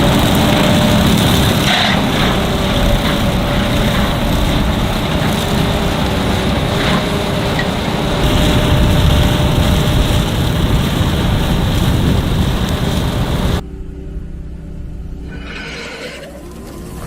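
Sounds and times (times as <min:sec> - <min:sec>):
heavy farm machinery engine din: 0:00.0 - 0:17.0.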